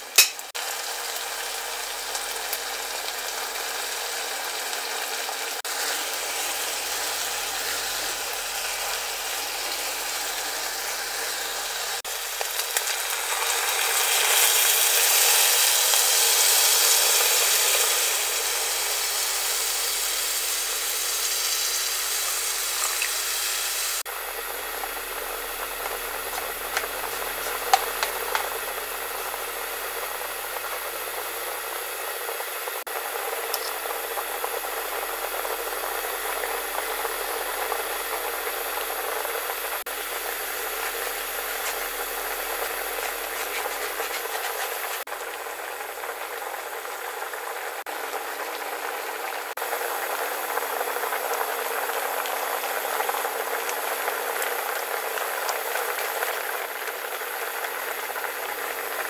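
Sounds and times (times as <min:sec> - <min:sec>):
stew boiling and bubbling: 0:00.0 - 0:59.0.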